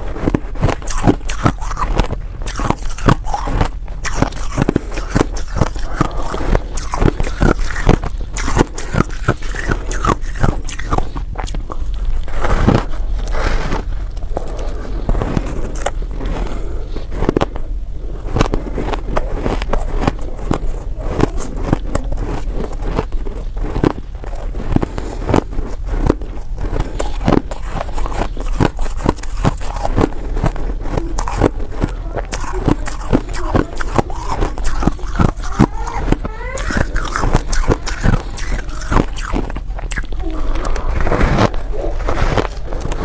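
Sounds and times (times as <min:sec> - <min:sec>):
ice being chewed crunching: 0:00.0 - 0:43.0
low hum: 0:00.0 - 0:43.0.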